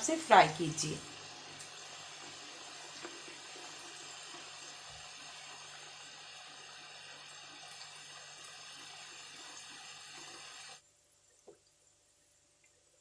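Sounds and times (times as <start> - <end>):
dough sizzling in hot oil: 0.0 - 10.8.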